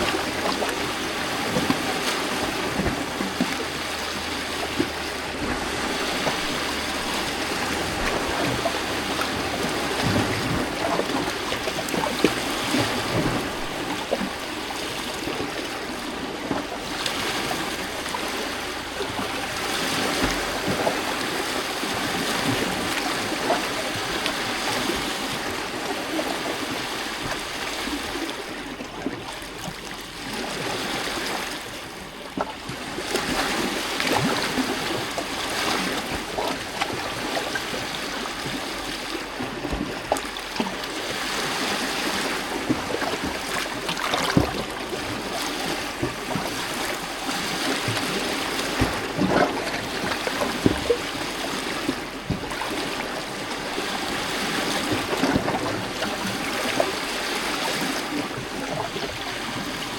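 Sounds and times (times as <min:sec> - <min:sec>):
waves lapping against rocks: 0:00.0 - 0:59.9.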